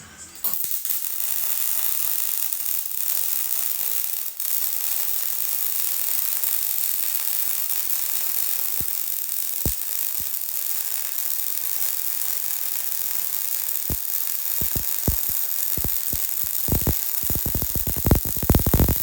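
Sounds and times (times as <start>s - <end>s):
welding arc sizzling hiss: 0.4s - 19.0s.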